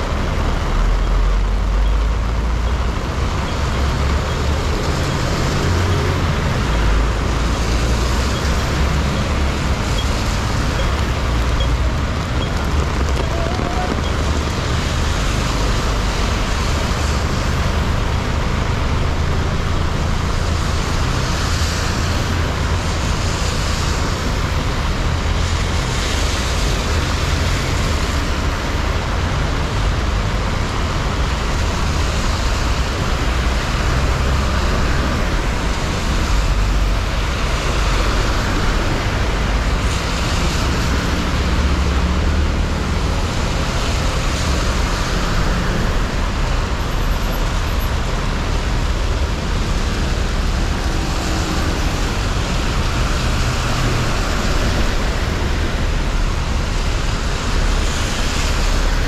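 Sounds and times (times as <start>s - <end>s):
falling rain: 0.0s - 59.0s
low rumble of engines: 0.0s - 59.0s
tyres hissing on wet road: 0.0s - 59.0s.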